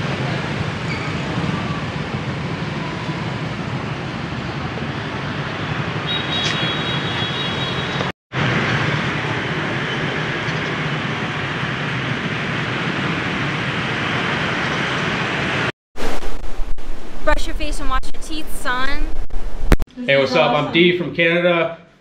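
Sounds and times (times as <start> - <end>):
road traffic noise: 0.0 - 20.5.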